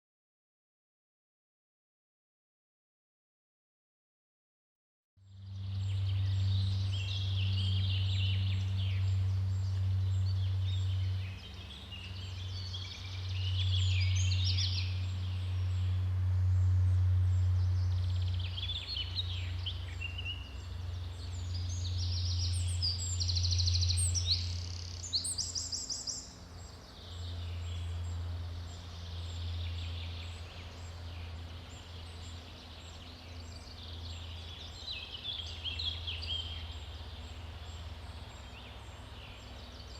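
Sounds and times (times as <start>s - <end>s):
songbirds chirping and trilling: 5.2s - 39.9s
steady low rumble: 5.2s - 39.9s.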